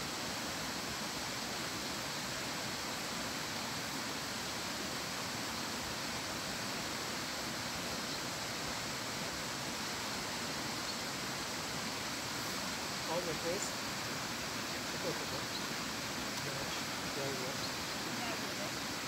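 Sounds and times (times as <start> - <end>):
stream rushing: 0.0 - 19.0.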